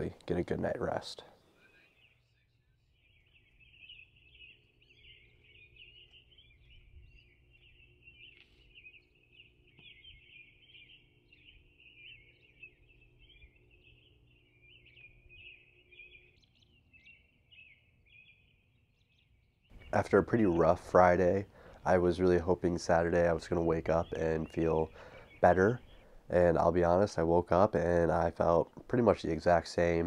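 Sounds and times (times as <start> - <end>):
chorus of high chirps: 0.0 - 30.0
low steady hum: 0.0 - 30.0.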